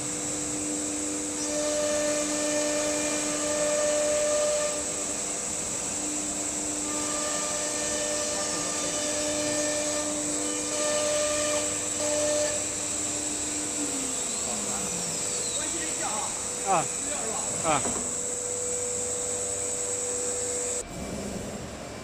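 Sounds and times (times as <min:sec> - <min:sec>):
dust extraction hiss: 0:00.0 - 0:20.8
cnc spindle whine: 0:00.0 - 0:22.0.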